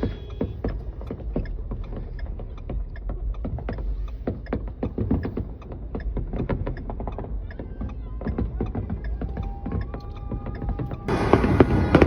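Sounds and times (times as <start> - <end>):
fireworks popping and crackling: 0.0 - 12.0
steady low rumble: 0.0 - 12.0.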